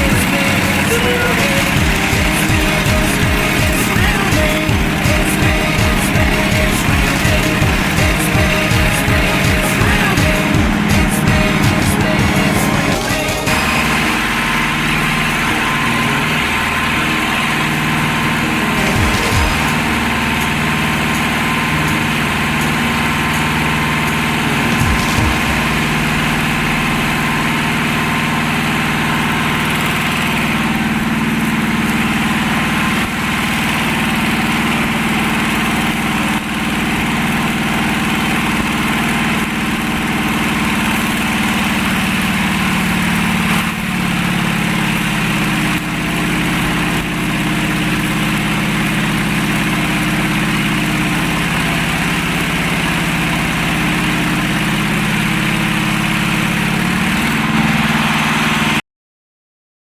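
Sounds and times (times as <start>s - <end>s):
machine droning hum: 0.0s - 58.6s.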